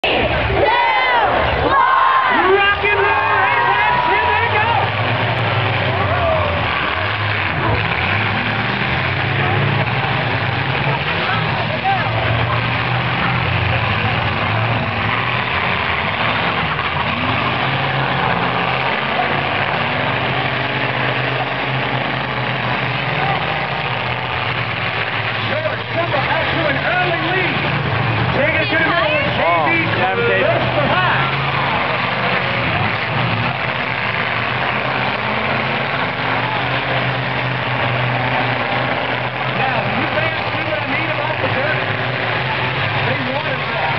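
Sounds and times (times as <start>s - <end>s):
car engines revving: 0.0s - 43.9s
grandstand crowd din: 0.0s - 43.9s.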